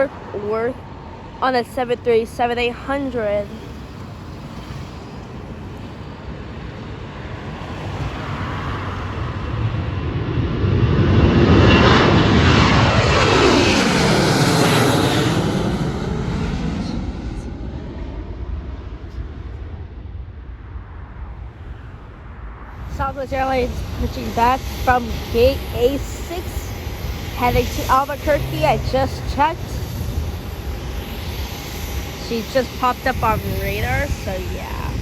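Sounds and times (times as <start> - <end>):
jet airliner passing roar: 0.0 - 35.0.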